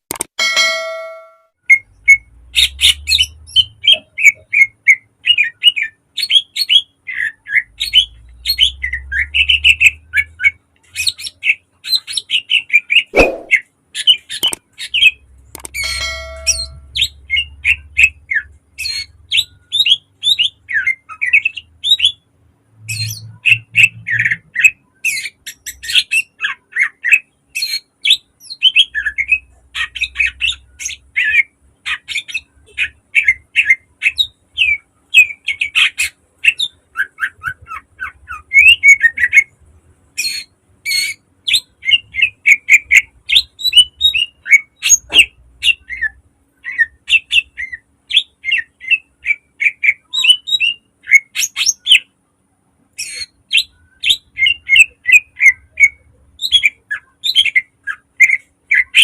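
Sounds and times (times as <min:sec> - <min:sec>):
bird singing: 0:00.5 - 0:39.6, 0:40.2 - 0:52.1, 0:53.0 - 0:59.0.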